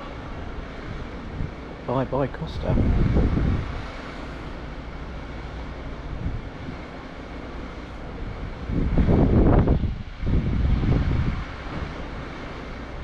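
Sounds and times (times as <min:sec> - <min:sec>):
steady low rumble: 0:00.0 - 0:13.0
wind buffeting microphone: 0:00.0 - 0:13.0.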